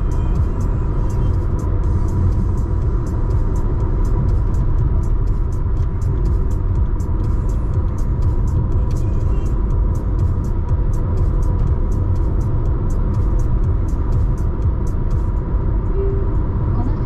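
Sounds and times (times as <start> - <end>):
background music with ticking beat: 0.0 - 17.0
car driving rumble: 0.0 - 17.0.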